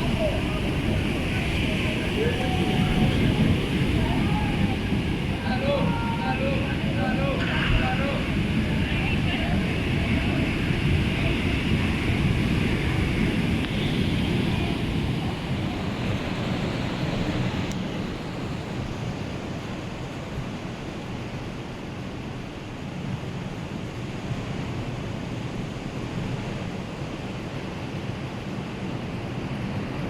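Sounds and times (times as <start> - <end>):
sea waves breaking: 0.0 - 30.0
wind on microphone: 0.0 - 30.0.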